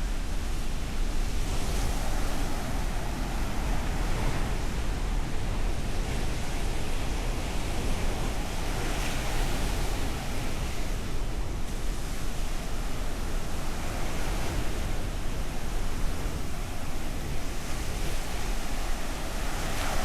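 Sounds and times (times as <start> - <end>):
waves breaking on beach: 0.0 - 20.0.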